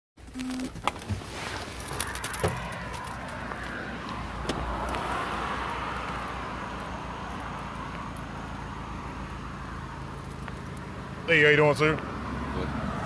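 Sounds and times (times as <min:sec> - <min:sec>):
car engine idling: 0:00.2 - 0:12.0
road noise: 0:00.2 - 0:13.0.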